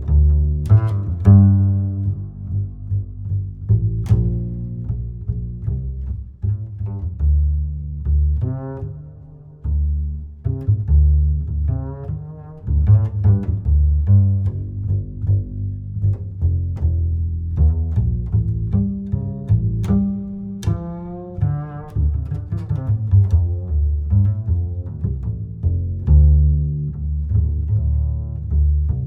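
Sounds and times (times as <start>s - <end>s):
double bass line: 0.0s - 29.0s.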